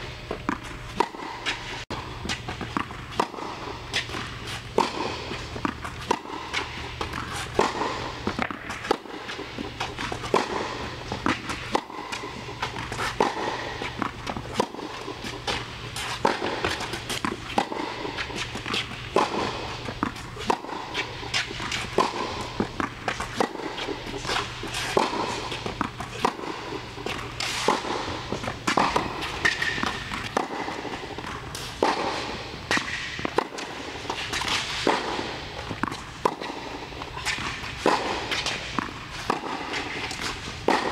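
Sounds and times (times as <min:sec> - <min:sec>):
steady low hum: 0:00.0 - 0:40.9
tennis ball hits and bounces: 0:00.0 - 0:40.9.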